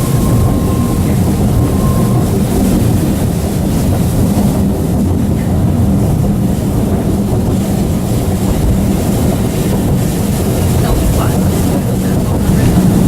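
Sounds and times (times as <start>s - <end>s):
train wheels on track: 0.0s - 13.0s.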